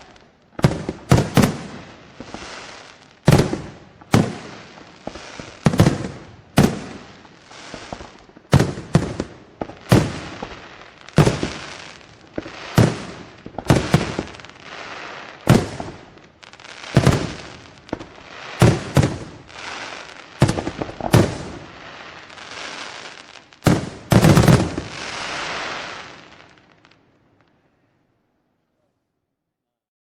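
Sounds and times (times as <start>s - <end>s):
fireworks bangs: 0.0s - 27.0s
fireworks crackling: 0.0s - 27.7s.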